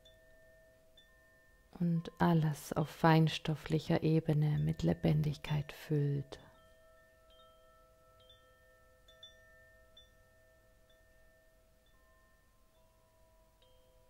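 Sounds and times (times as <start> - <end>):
soft ringing chime music: 0.0 - 3.0, 3.7 - 14.0.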